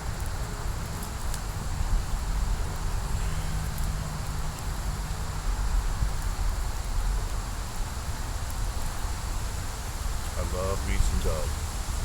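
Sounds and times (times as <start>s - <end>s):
rustling hiss: 0.0s - 12.0s.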